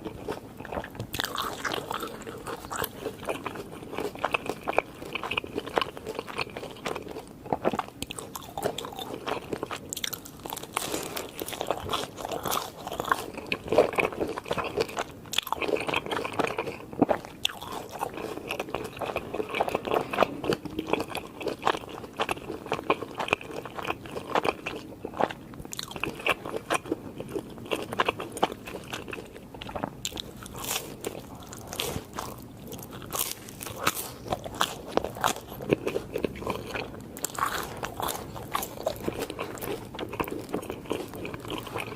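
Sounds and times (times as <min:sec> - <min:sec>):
crunchy food chewing: 0:00.0 - 0:41.9.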